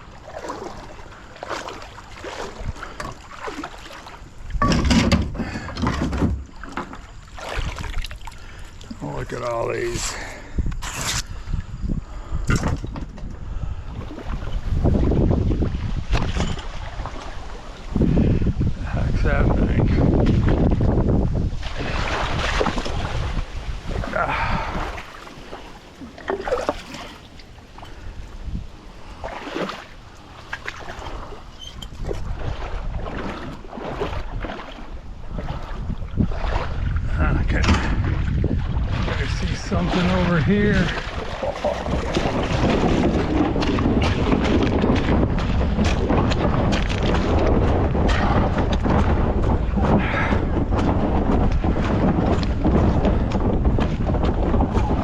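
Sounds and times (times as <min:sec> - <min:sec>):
water splashing around kayak: 0:00.0 - 0:55.0
wind rumble on microphone: 0:00.0 - 0:55.0.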